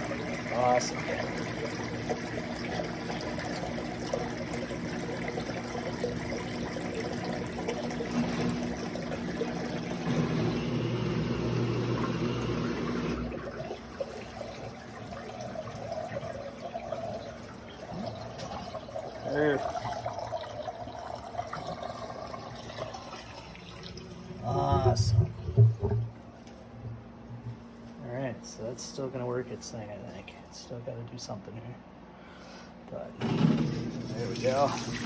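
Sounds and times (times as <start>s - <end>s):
drain pump humming: 0.0s - 27.6s, 33.0s - 35.0s.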